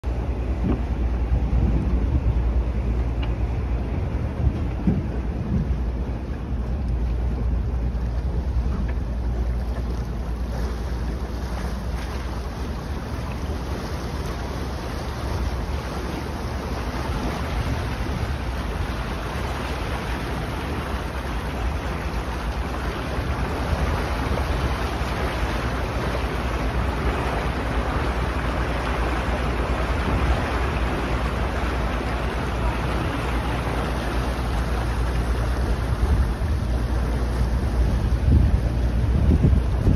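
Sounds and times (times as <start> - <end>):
rush of wind and water: 0.0 - 39.9
wind buffeting on microphone: 0.0 - 39.9.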